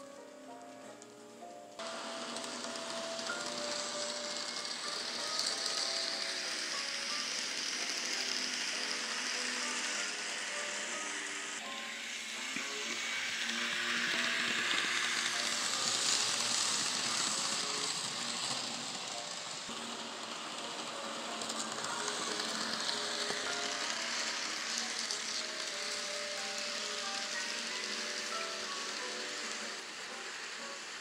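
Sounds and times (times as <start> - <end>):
model train wheels whirring: 0.0 - 31.0.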